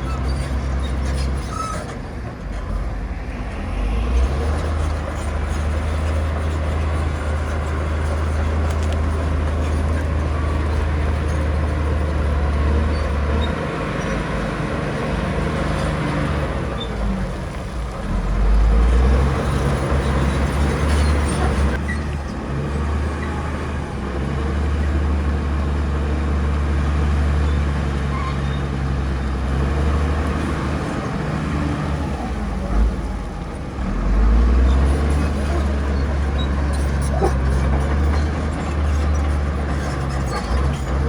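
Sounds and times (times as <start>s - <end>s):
diesel machinery engine hum: 0.0s - 41.0s.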